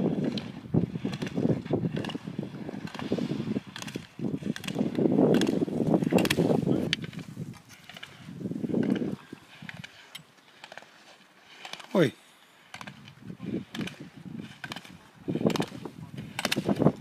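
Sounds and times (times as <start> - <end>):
wind buffeting the microphone: 0.0 - 10.3, 12.0 - 17.0.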